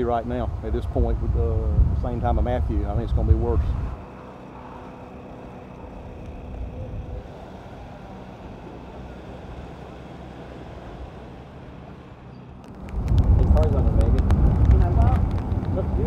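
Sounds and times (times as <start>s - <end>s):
low engine hum: 0.0s - 16.0s
outdoor noise: 0.0s - 16.0s.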